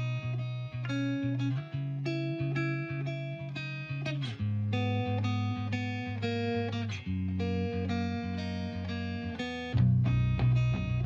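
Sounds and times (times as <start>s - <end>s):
plucked guitar tune: 0.0s - 11.0s.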